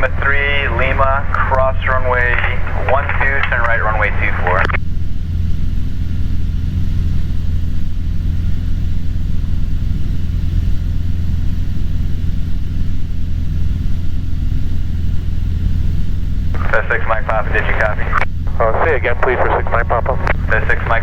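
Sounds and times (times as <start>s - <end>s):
airplane engine and propeller droning: 0.0s - 21.0s.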